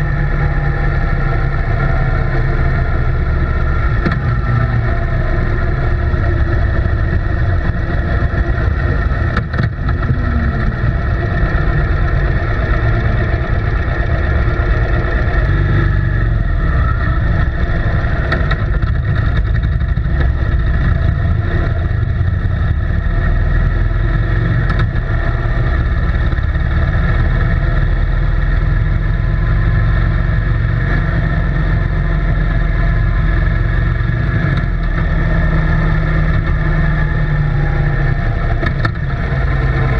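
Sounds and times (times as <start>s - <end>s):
engine droning: 0.0s - 39.9s.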